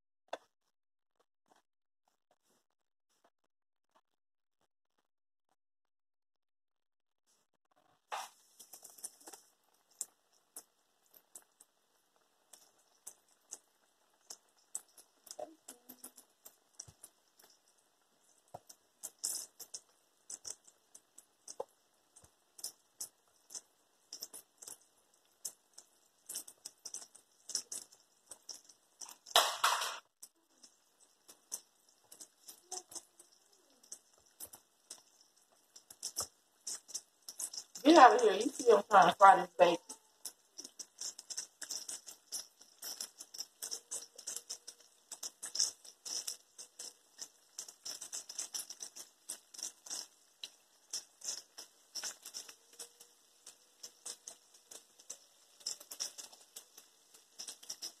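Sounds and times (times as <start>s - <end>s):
bacon deep-frying in oil: 7.3s - 58.0s.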